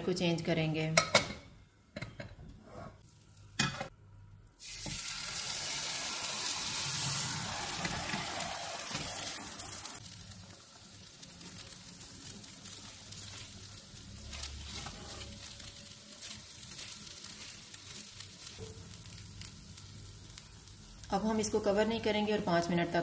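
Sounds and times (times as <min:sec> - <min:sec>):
bread sizzling in a frying pan: 0:04.5 - 0:23.0.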